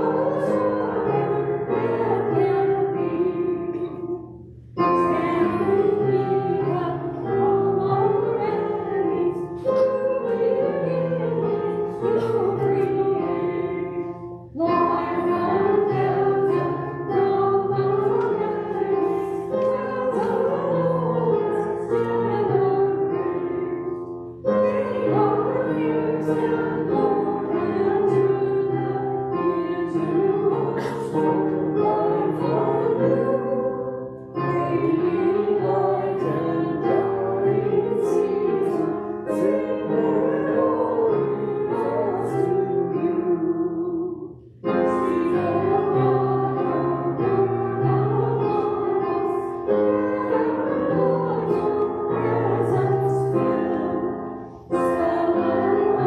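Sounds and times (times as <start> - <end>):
group singing a hymn: 0.0 - 56.0
keyboard accompaniment: 0.0 - 56.0.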